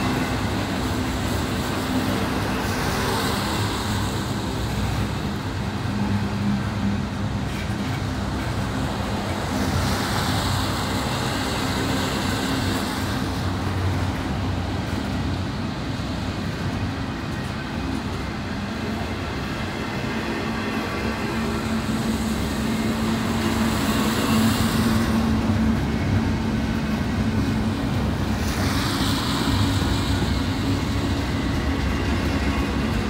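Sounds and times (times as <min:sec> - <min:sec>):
freight train rumbling past: 0:00.0 - 0:33.0
road traffic passing: 0:00.0 - 0:33.0.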